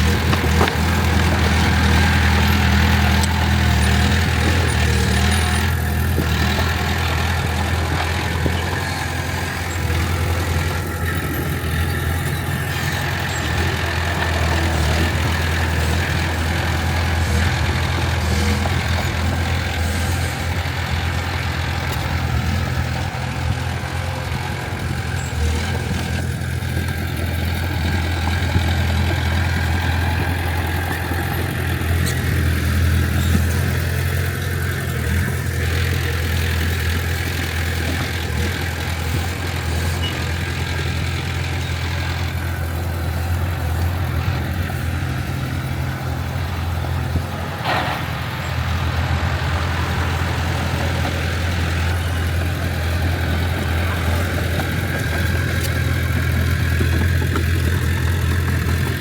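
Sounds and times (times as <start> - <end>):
diesel machinery engine humming: 0.0 - 59.0.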